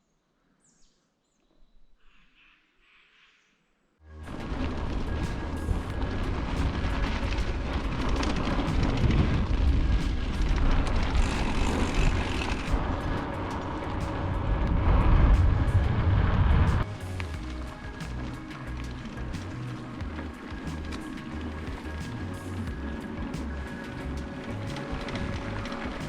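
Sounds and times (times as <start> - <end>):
wind buffeting microphone: 4.2 - 26.0.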